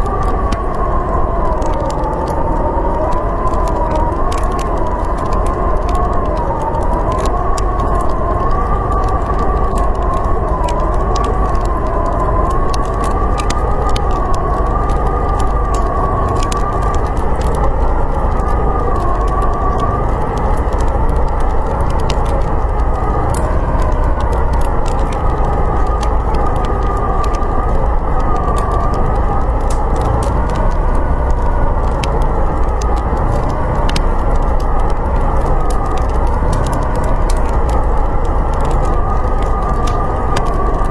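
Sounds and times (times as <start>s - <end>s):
howling blizzard wind: 0.0s - 40.9s
wood fire crackling: 0.0s - 40.9s.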